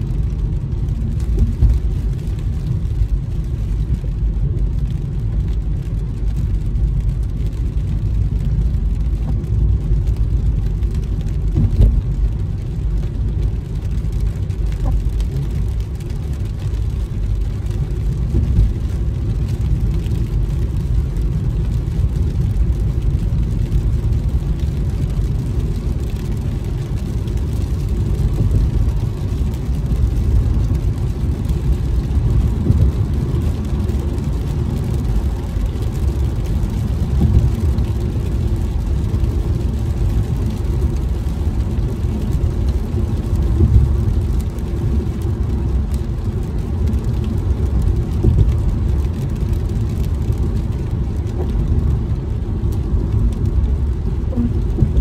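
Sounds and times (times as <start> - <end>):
car driving on wet road: 0.0 - 55.0.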